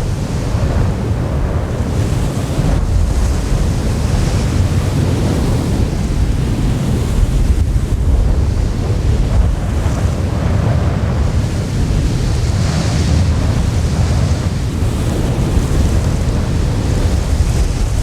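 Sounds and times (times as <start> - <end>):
strong wind buffeting: 0.0 - 18.0.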